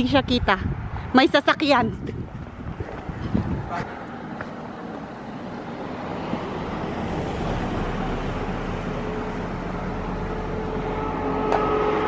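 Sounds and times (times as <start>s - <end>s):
vehicle approaching on road: 0.0s - 12.0s.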